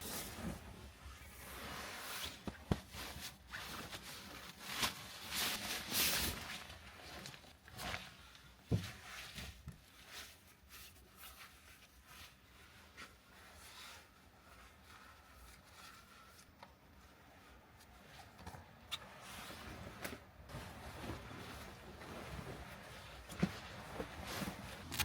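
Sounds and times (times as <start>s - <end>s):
rustling and handling: 0.0s - 25.0s.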